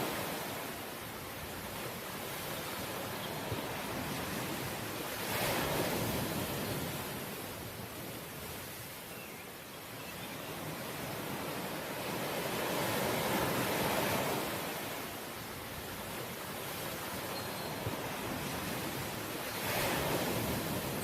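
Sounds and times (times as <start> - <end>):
waves breaking on shore: 0.0 - 9.6, 10.4 - 21.0.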